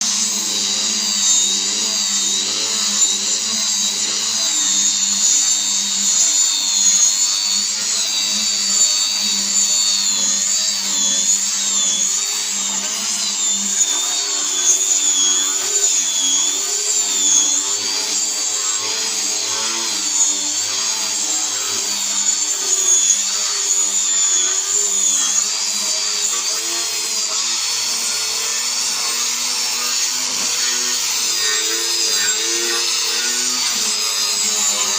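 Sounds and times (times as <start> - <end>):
angle grinder whining: 0.0 - 34.9.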